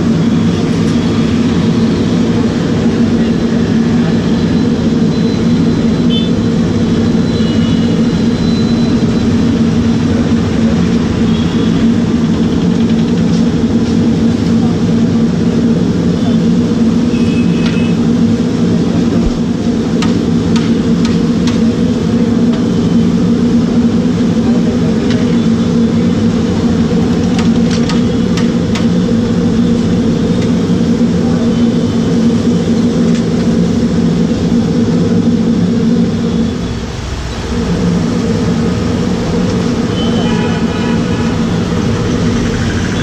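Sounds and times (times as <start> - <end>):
gas burner roaring: 0.0 - 43.0.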